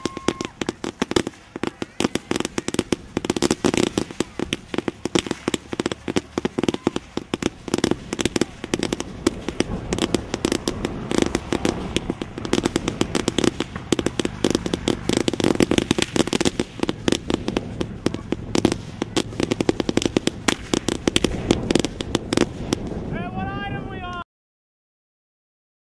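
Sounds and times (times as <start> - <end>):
firecrackers going off: 0.0 - 24.2.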